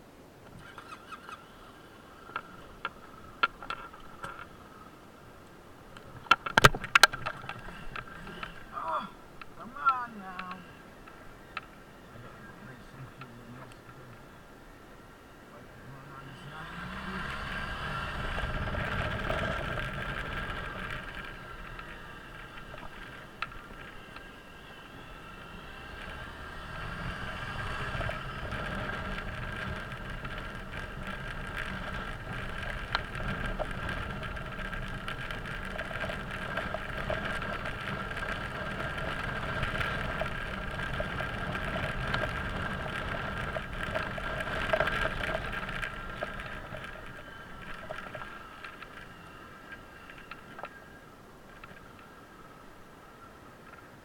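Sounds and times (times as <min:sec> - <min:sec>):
road and wind noise: 0:00.0 - 0:54.0
scooter engine running: 0:00.5 - 0:04.9, 0:06.0 - 0:13.6, 0:15.3 - 0:52.5.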